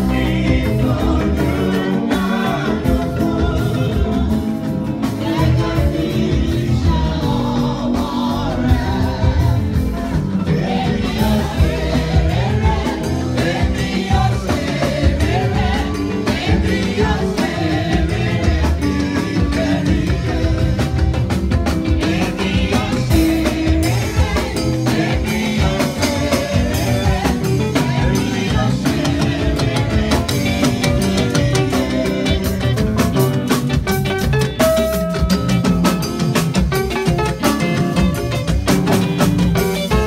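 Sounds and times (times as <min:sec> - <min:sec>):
drum kit: 0:00.0 - 0:40.0
electric bass guitar: 0:00.0 - 0:40.0
people singing into microphones: 0:00.0 - 0:40.0.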